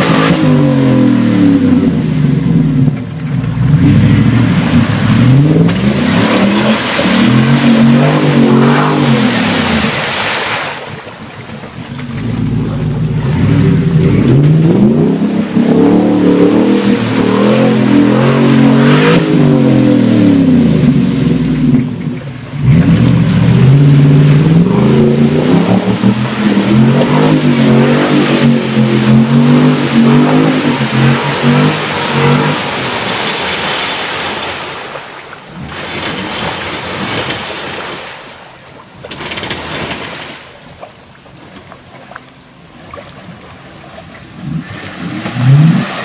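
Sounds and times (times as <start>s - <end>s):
truck engine revving: 0.0s - 10.4s, 12.0s - 34.8s, 35.6s - 38.1s, 44.3s - 46.0s.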